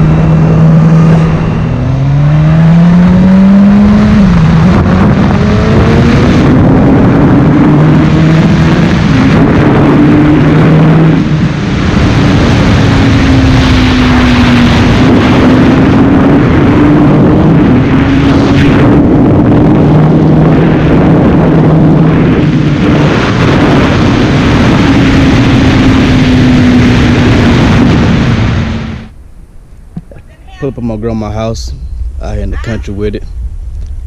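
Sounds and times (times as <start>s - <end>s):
motorcycle engine accelerating: 0.0s - 29.2s
wind noise on microphone: 0.0s - 34.0s.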